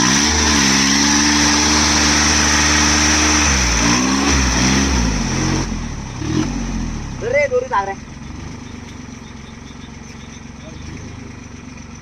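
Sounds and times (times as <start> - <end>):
diesel tractor engine revving: 0.0 - 12.0.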